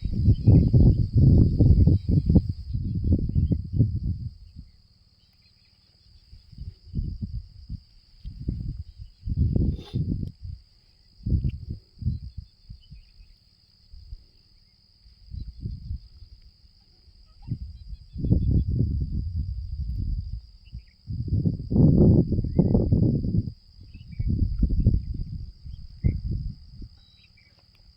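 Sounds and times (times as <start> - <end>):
high insect drone: 0.0 - 27.9.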